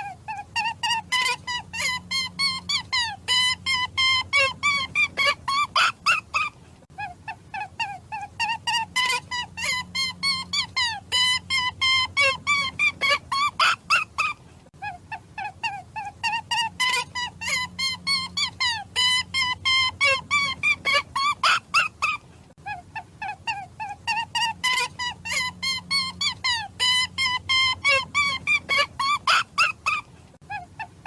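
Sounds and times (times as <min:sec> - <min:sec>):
high-pitched animal calls: 0:00.0 - 0:31.0.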